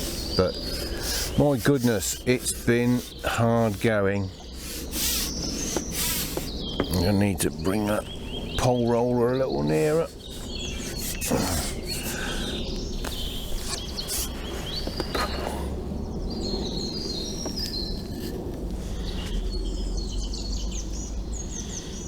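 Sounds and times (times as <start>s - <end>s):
steady low rumble: 0.0s - 21.6s
small birds chirping: 0.0s - 22.0s.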